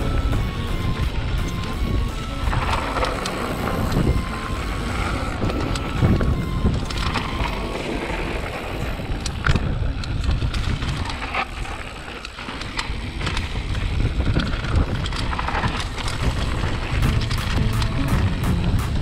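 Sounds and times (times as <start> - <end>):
steady rumble: 0.0 - 11.2, 12.9 - 19.0
bike clicks and rattles: 0.0 - 19.0
tyres crunching gravel: 0.0 - 19.0
wind buffeting microphone: 0.0 - 19.0.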